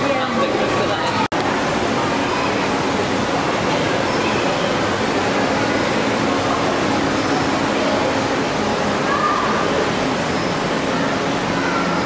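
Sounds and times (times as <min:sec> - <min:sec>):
faint voices: 0:00.0 - 0:12.0
rushing water from aquarium filters: 0:00.0 - 0:12.0.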